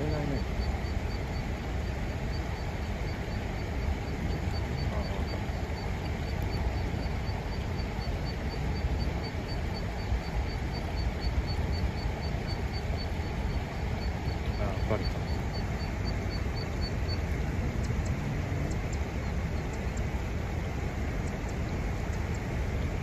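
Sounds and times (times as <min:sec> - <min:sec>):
faint high ticking: 0:00.0 - 0:23.0
wind and moving water rumble: 0:00.0 - 0:23.0.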